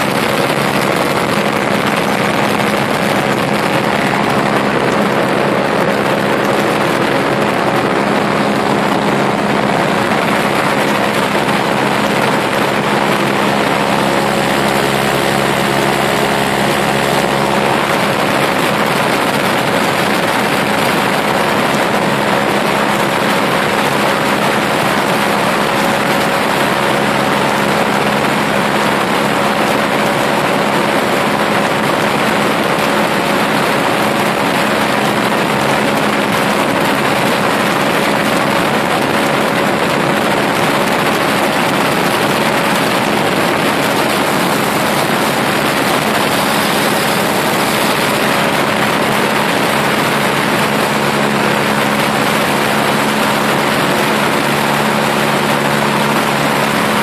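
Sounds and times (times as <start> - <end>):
small aircraft engine and propeller: 0.0 - 57.0
wind rushing: 0.0 - 57.0.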